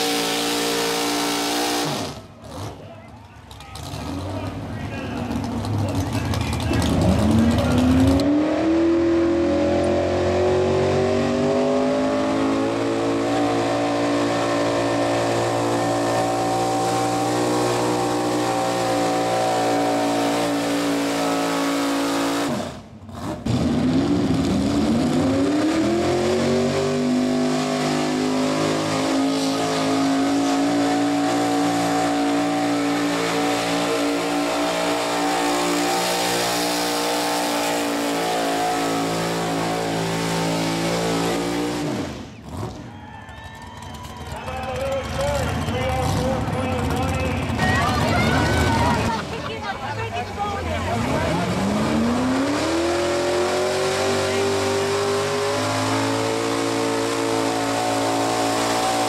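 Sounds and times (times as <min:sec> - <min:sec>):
truck engine at full throttle: 0:00.0 - 0:43.0, 0:43.6 - 0:59.0.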